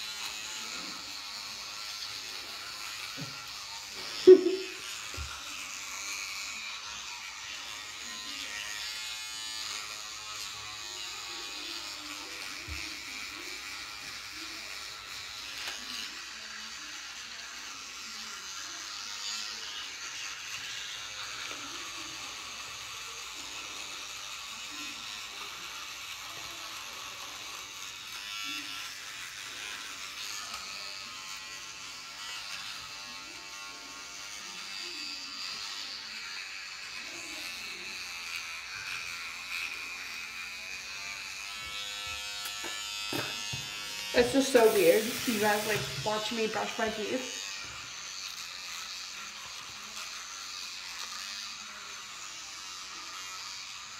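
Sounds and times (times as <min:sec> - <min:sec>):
electric toothbrush buzzing: 0:00.0 - 0:53.9.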